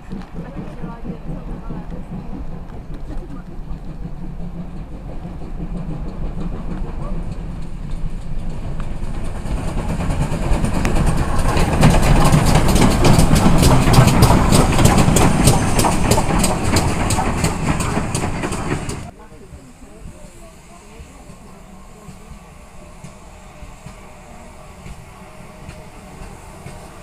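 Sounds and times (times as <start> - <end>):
train rumbling: 0.0 - 27.0
wheels clicking over rail joints: 0.0 - 27.0.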